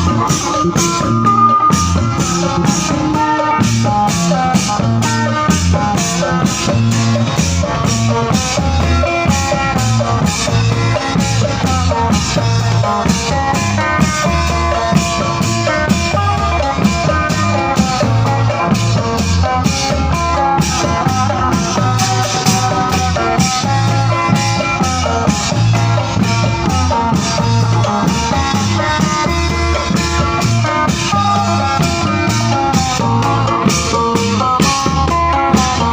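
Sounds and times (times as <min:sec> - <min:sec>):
drum kit beat: 0:00.0 - 0:35.9
guitar: 0:00.0 - 0:35.9
loud band music: 0:00.0 - 0:35.9.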